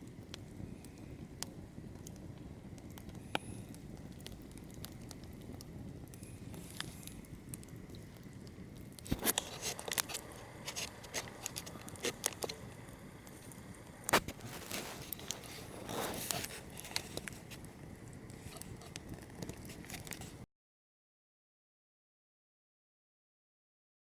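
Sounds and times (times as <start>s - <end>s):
campfire crackling and popping: 0.0s - 20.4s.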